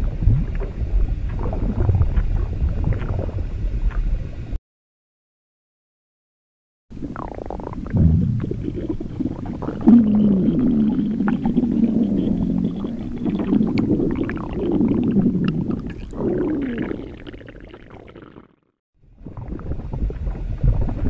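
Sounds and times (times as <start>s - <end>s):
deep stomach gurgling: 0.0s - 4.2s, 6.9s - 21.0s.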